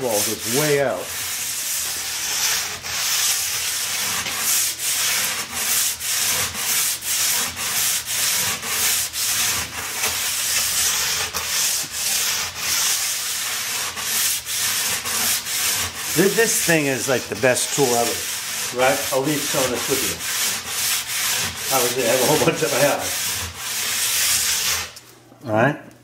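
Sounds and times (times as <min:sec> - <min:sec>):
tool rasping plastic ski sidewall: 0:00.0 - 0:25.0.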